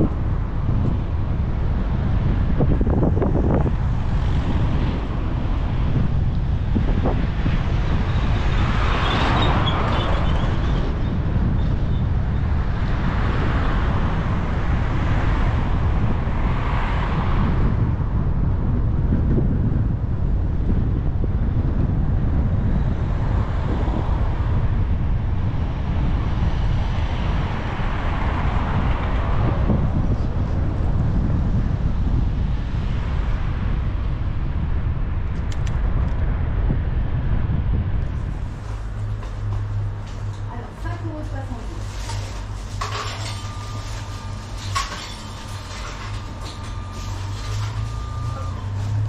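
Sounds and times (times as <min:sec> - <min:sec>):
cars passing: 0:00.0 - 0:19.0, 0:22.7 - 0:49.0
wind rumble on microphone: 0:00.0 - 0:49.0.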